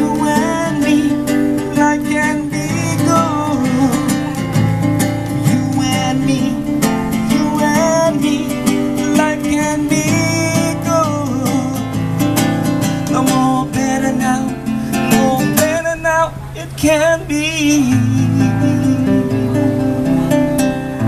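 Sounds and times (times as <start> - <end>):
acoustic guitar strumming: 0.0 - 21.0
man singing: 0.0 - 21.0.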